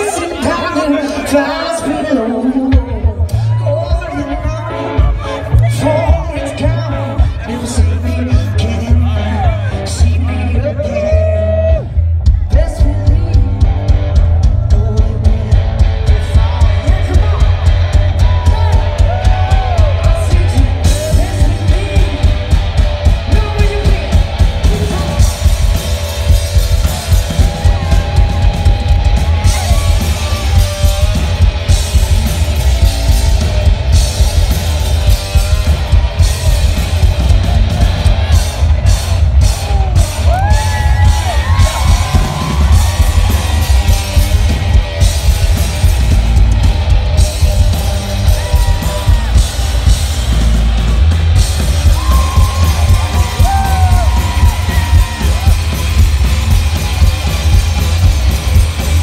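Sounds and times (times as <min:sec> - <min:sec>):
driving drum beat: 0:00.0 - 0:59.0
electric guitar: 0:00.0 - 0:59.0.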